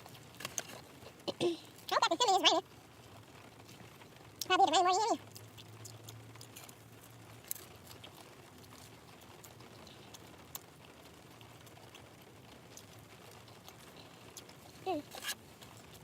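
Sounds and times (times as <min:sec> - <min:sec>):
light rain pattering on car: 0:00.0 - 0:16.0.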